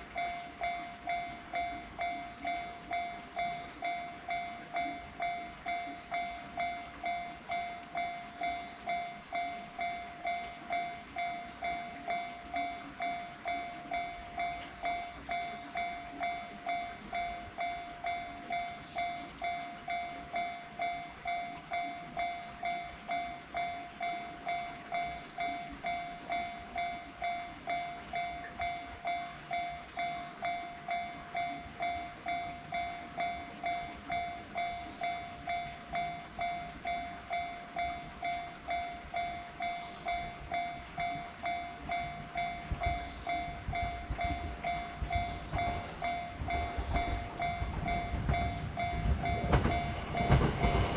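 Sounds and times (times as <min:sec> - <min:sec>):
level crossing bell ringing: 0:00.0 - 0:50.9.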